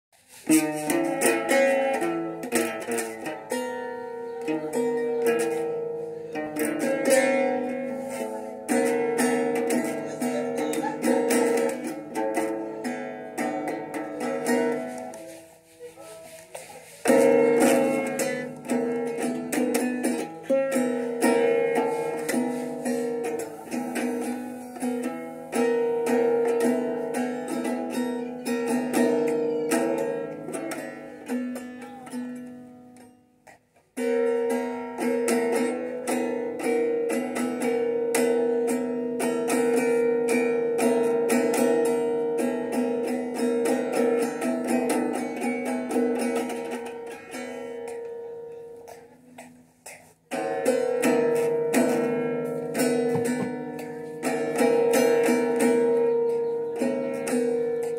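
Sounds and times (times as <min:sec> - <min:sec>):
plucked guitar-like strings: 0:00.2 - 0:57.9.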